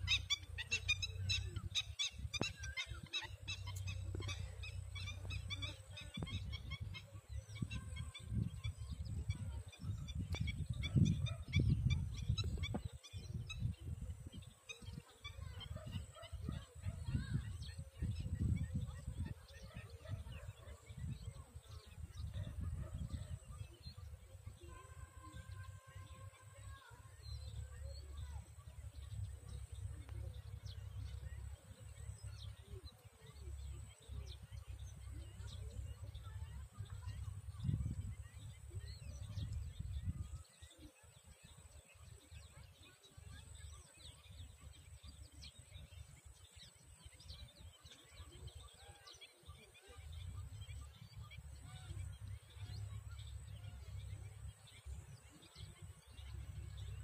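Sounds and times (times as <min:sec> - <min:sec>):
small birds chirping: 0:00.0 - 0:57.0
wind on microphone: 0:00.0 - 0:57.0.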